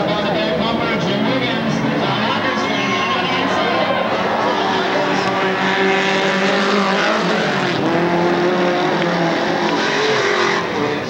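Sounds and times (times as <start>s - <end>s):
race car engines running hard: 0.0s - 11.0s.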